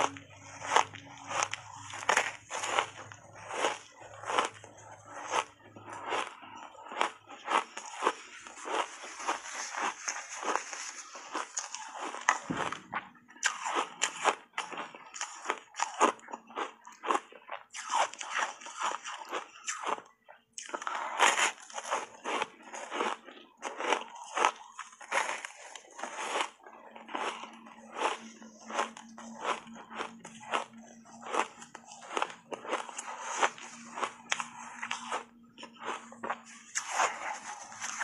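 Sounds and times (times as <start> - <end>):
ice crunching in mouth: 0.0 - 12.7, 13.4 - 38.0.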